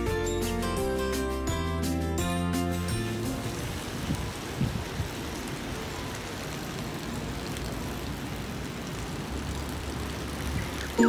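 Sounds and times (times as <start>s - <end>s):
rain hiss: 0.0s - 11.0s
wet traffic noise: 0.0s - 11.0s.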